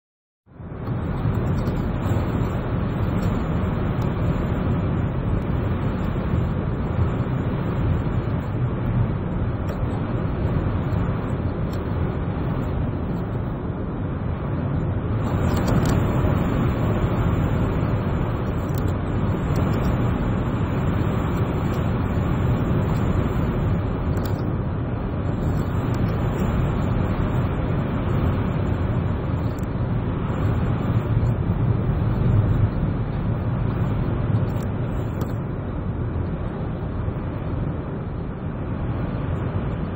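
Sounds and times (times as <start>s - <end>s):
blizzard wind rumbling on microphone: 0.5s - 39.9s.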